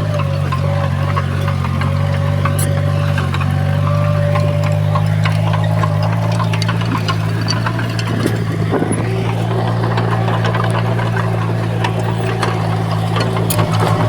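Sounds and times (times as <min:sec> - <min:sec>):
heavy machine diesel engine: 0:00.0 - 0:14.0
metallic clicks and clanks: 0:00.1 - 0:14.0.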